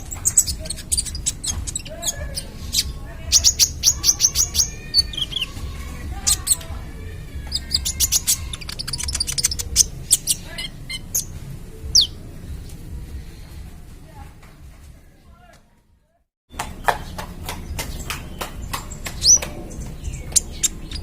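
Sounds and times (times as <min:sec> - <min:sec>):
bird singing high chirps: 0:00.0 - 0:13.6, 0:17.7 - 0:21.0.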